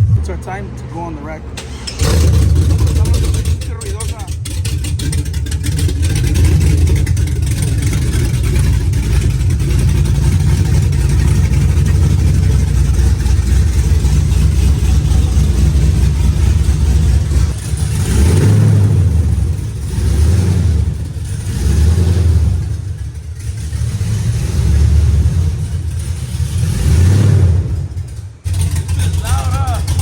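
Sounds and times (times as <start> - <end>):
car engine running and revving: 0.0 - 30.0.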